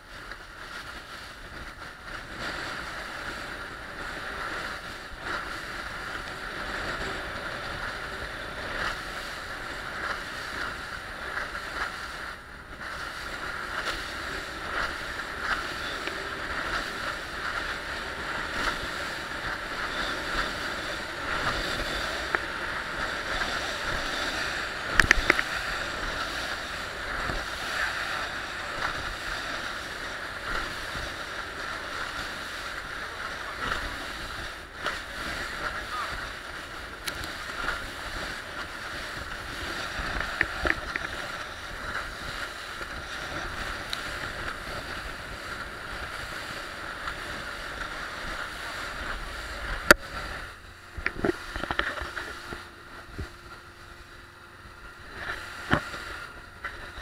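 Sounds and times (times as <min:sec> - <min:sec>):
motor boat engine and water rush: 0:00.0 - 0:57.0.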